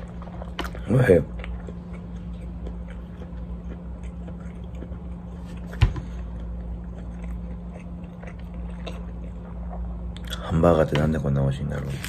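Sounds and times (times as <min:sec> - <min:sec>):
person chewing with wet mouth clicks: 0:00.0 - 0:10.4
steady low hum: 0:00.0 - 0:12.0.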